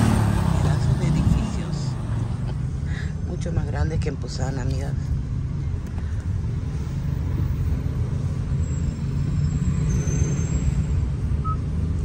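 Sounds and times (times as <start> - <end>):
car interior engine and road rumble: 0.0 - 12.0.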